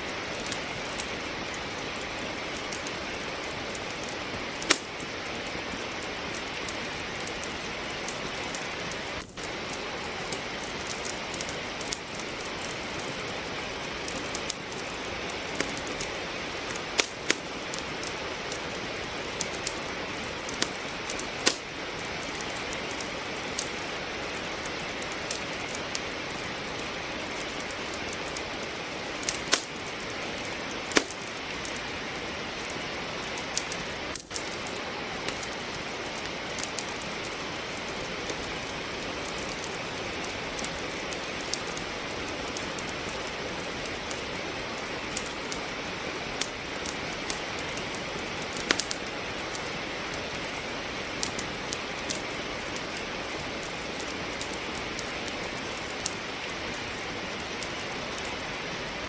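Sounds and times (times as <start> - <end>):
firewood crackling and popping: 0.0 - 59.0
rain hiss: 0.0 - 59.0.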